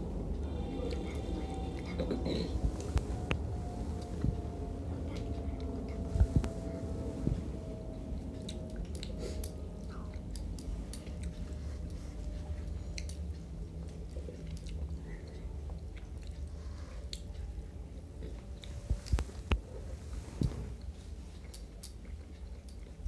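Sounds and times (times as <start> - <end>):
people chewing food: 0.0 - 19.8, 20.8 - 23.0
steady low hum: 0.0 - 23.0.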